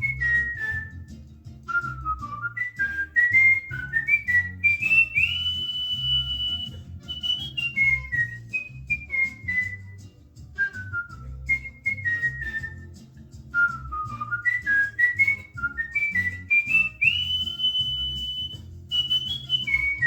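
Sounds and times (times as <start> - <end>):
cockatiel whistling a tune: 0.0 - 20.0.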